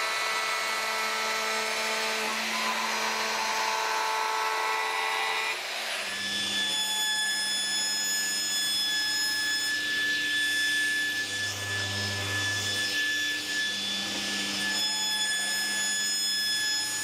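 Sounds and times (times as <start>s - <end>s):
table saw whining: 0.0s - 17.0s.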